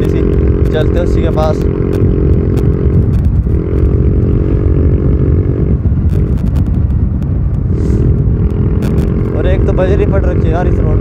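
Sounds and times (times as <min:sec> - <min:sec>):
motorcycle with loud exhaust: 0:00.0 - 0:11.0
wind rumble on microphone: 0:00.0 - 0:11.0.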